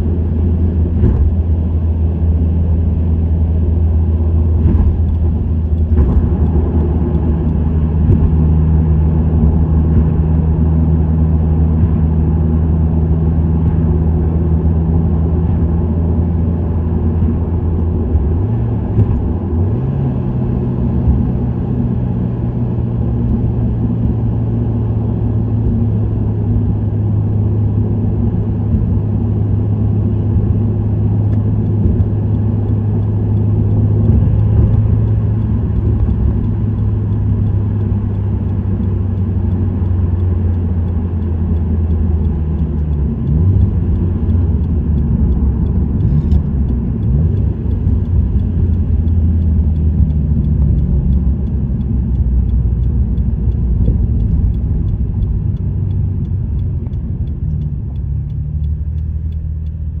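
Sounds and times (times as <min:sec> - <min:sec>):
car engine and exhaust droning: 0:00.0 - 1:00.0.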